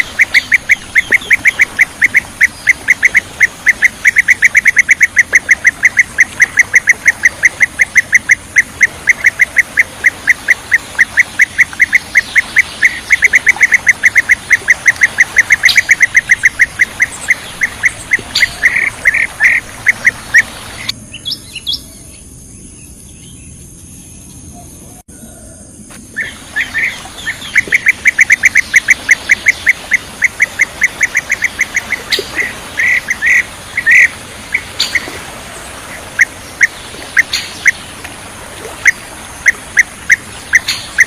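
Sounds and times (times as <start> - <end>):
bird calling rapidly: 0.0 - 21.0, 26.1 - 41.0.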